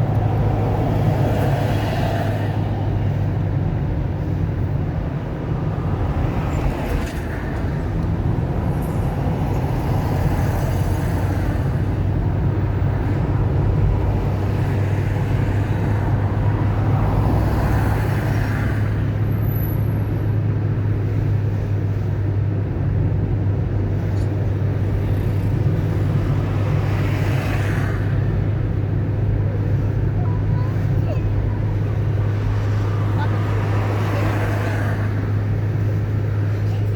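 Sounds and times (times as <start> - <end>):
car engine and road drone: 0.0 - 36.9.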